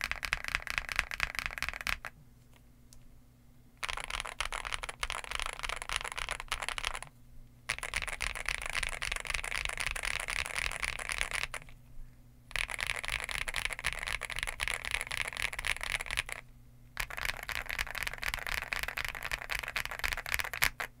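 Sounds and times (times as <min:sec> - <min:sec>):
fast mechanical keyboard typing: 0:00.0 - 0:02.1, 0:03.8 - 0:07.1, 0:07.7 - 0:11.7, 0:12.5 - 0:16.4, 0:17.0 - 0:20.9.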